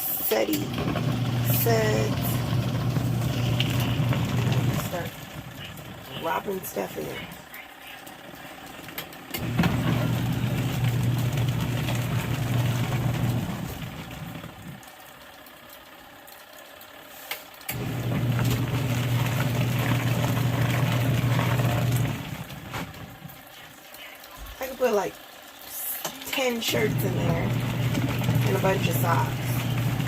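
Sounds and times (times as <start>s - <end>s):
washing machine motor humming: 0.0s - 30.0s
water churning: 0.0s - 30.0s.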